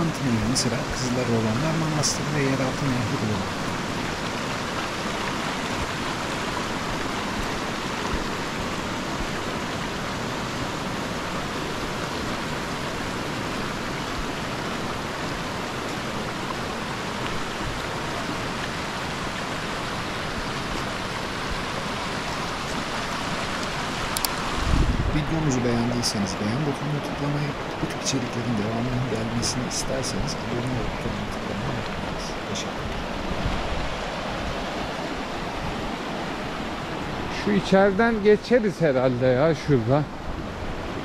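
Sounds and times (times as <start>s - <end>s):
stream running over rocks: 0.0s - 41.0s.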